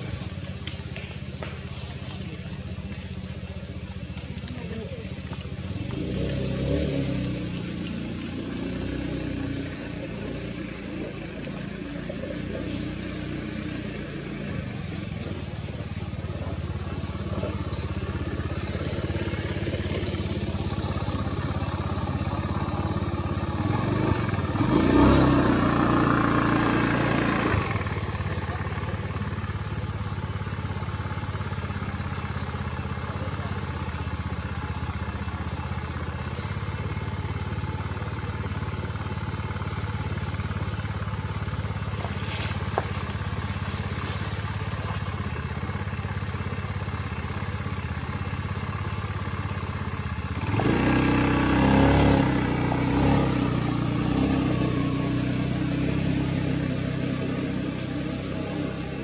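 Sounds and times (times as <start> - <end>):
motor engine humming: 0.0 - 59.0.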